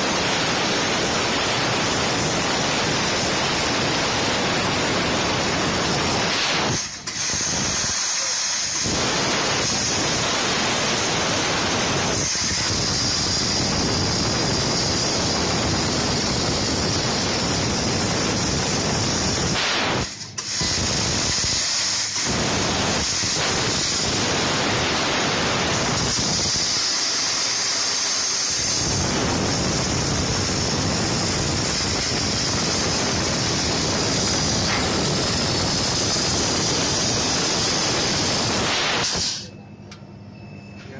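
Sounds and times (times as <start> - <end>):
hiss of gas jetting from nozzle: 0.0 - 39.5.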